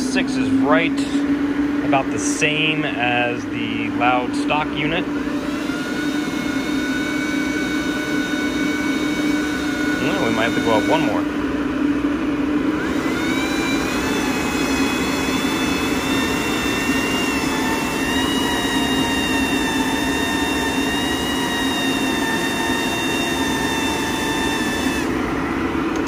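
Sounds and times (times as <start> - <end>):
duct fan air rush: 0.0 - 26.0
high whine: 0.0 - 26.0.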